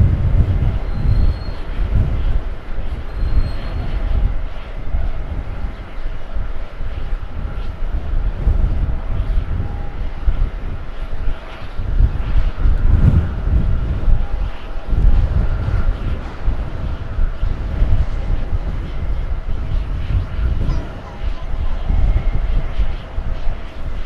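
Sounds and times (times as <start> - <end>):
faint jet engine whine: 0.0 - 24.0
jet airliner rumble: 0.0 - 24.0.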